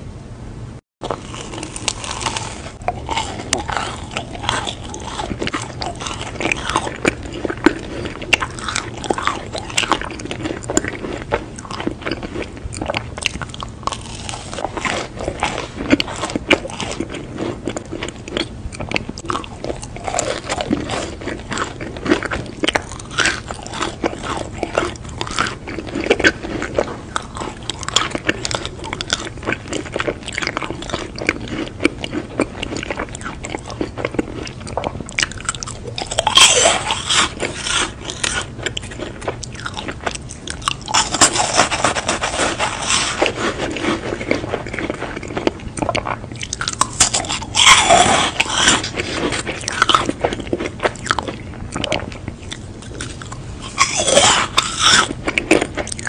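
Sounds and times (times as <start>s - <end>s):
crisp crunching bites: 1.0s - 56.0s
wet chewing: 1.0s - 56.0s.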